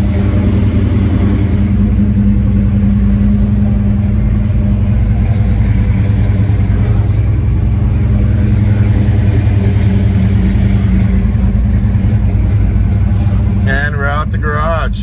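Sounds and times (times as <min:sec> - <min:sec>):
car engine running at low speed: 0:00.0 - 0:15.0.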